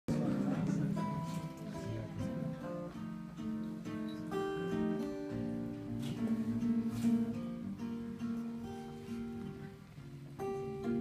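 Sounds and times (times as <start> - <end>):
acoustic guitar strummed and plucked: 0.1 - 11.0.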